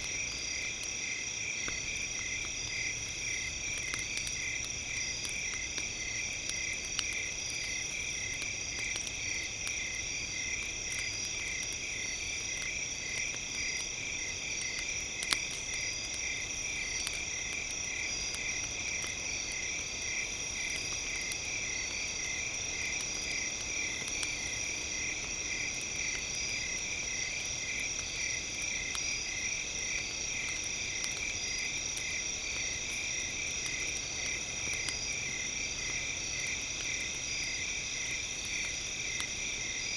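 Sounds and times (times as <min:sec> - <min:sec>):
campfire crackling: 0:00.0 - 0:39.9
fire popping: 0:00.0 - 0:39.9.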